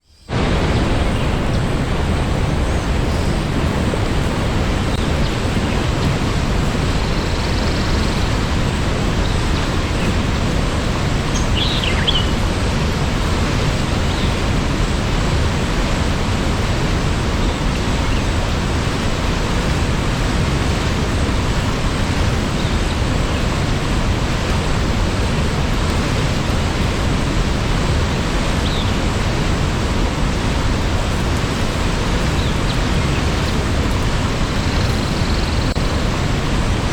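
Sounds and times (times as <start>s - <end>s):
waterfall rushing: 0.3s - 36.9s.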